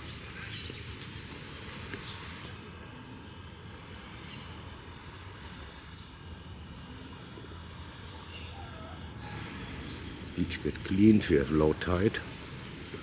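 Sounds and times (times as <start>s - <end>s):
bird chirping: 0.0s - 13.0s
low outdoor background noise: 0.0s - 13.0s.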